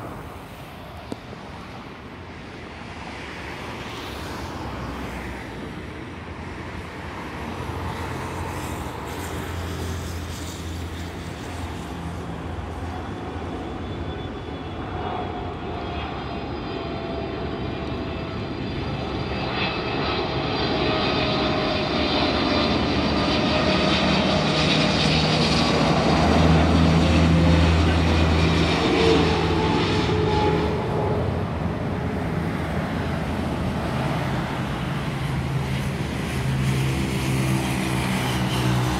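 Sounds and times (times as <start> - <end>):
jet plane passing overhead: 0.0 - 38.9.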